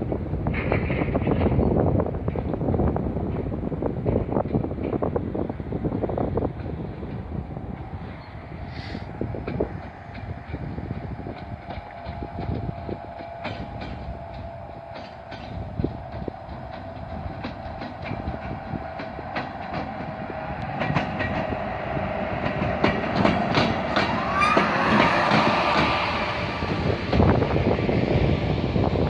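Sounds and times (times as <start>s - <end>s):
train wheels clicking on rails: 0.0s - 29.0s.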